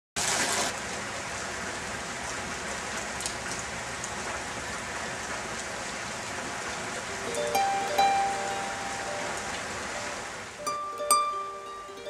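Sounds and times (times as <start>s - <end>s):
steady rain hiss: 0.2s - 12.0s.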